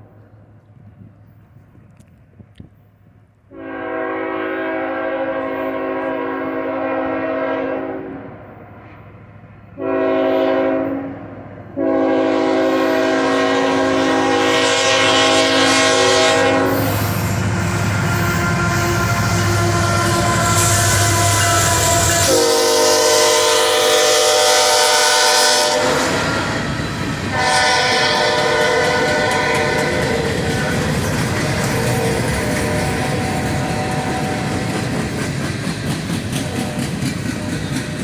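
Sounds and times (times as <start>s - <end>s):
train engine and wheel noise: 0.0s - 38.0s
train air horn blasts: 3.5s - 8.6s, 9.8s - 34.8s, 36.4s - 37.1s.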